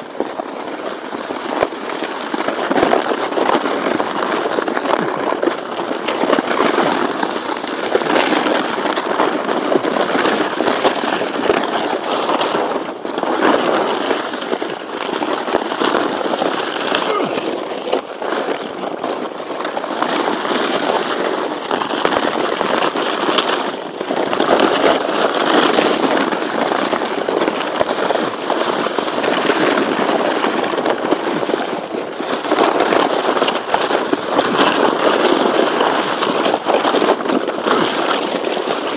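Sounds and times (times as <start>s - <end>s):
sledge scraping on ice and snow: 0.2s - 38.9s.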